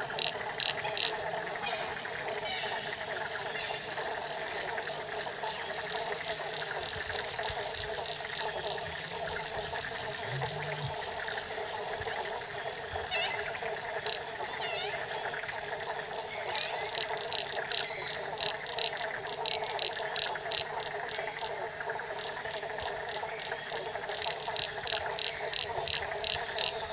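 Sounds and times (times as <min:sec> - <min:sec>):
frogs calling: 0:00.0 - 0:26.9.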